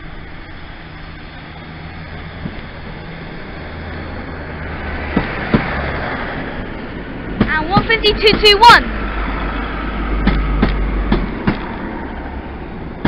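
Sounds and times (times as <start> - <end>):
diesel railcar engine drone: 0.0 - 13.0
wheels on rails: 0.0 - 13.0.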